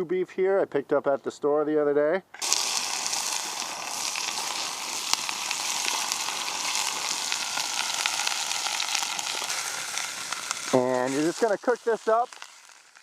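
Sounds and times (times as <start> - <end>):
meat sizzling in hot oil: 2.4 - 13.0.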